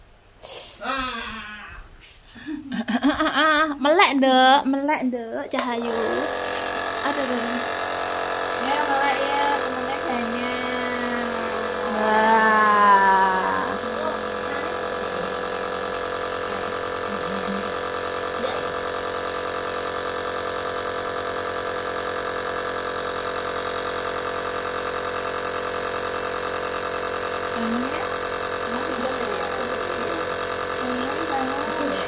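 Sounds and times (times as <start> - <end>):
nebulizer machine buzzing hum: 5.5 - 32.0.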